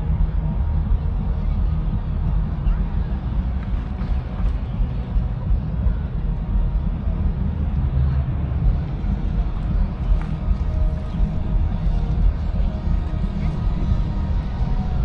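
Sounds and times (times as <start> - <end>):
city low rumble: 0.0 - 15.0.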